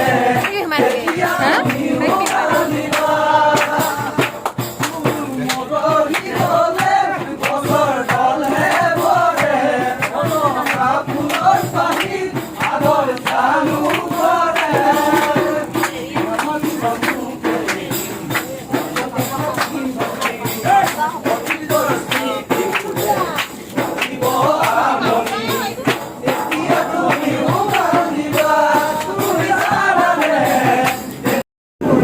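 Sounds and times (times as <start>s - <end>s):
music with singing voices: 0.0s - 32.0s
percussion: 0.0s - 32.0s.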